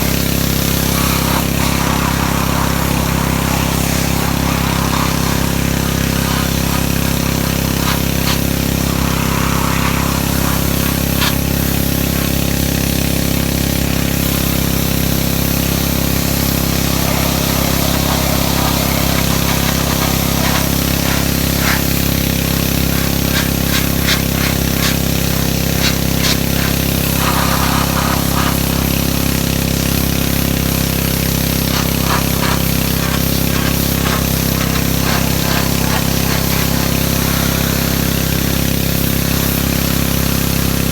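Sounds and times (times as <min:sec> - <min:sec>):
pressure washer motor drone: 0:00.0 - 0:40.9
water spray hissing: 0:00.0 - 0:40.9.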